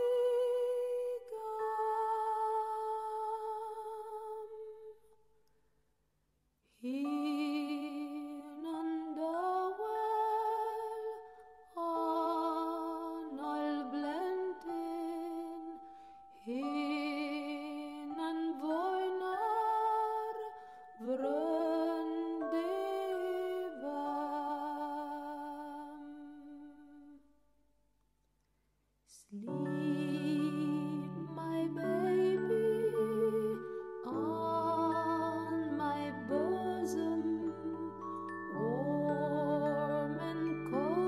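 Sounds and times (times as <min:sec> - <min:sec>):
soft wordless humming melody: 0:00.0 - 0:05.6, 0:06.7 - 0:27.5, 0:29.0 - 0:41.0.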